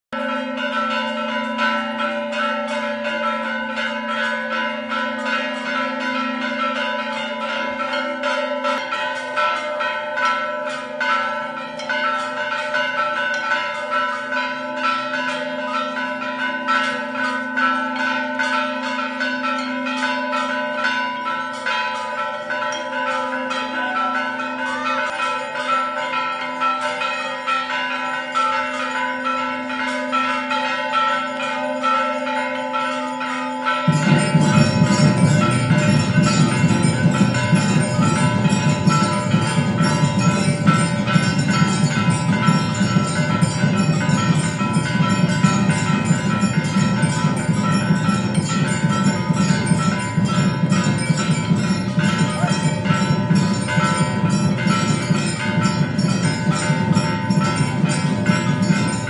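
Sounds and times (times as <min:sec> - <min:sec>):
brass bells ringing rapidly: 0:00.1 - 0:59.0.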